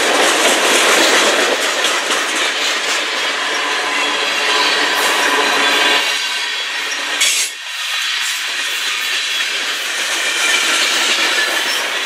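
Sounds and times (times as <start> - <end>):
steel wheels clattering on rails: 0.0 - 12.0.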